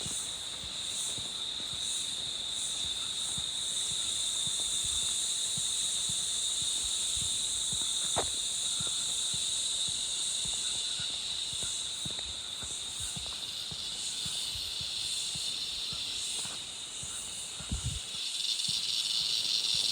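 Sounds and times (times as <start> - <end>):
insects chorus: 0.0 - 19.9.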